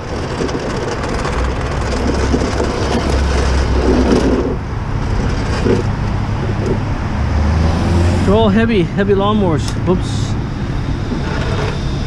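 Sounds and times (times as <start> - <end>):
broad noise: 0.0 - 12.0
motor vehicle rumble: 0.0 - 12.0.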